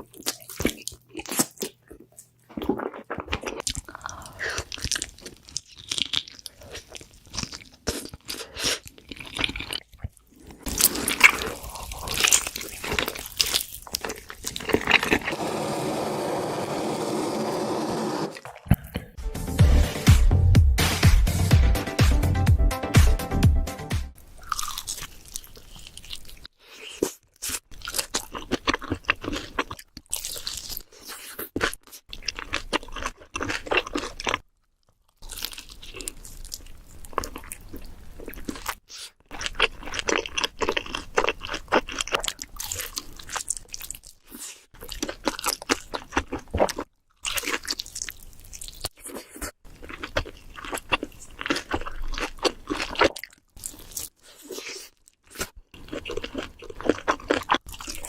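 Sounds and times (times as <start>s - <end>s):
crunching bites and chewing: 0.0s - 15.4s, 24.4s - 58.0s.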